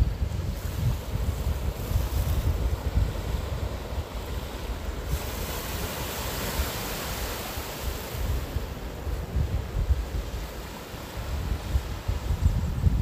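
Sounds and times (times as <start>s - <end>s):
wind buffeting microphone: 0.0s - 13.0s
sea waves washing onto rocks: 0.4s - 12.4s.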